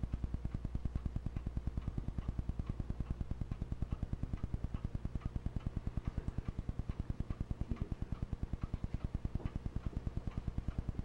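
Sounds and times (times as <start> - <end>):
film projector clicking: 0.0 - 11.0
low motor hum: 0.0 - 11.0.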